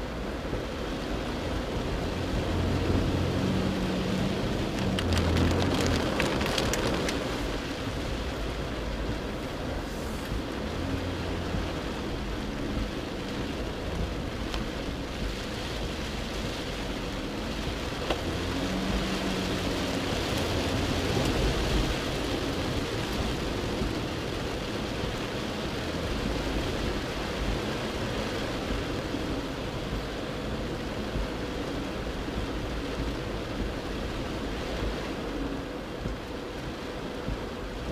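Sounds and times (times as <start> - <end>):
diesel engine rumble: 0.0 - 37.9
heavy rain beating on a car: 0.0 - 37.9
spray washing across windscreen: 0.0 - 37.9.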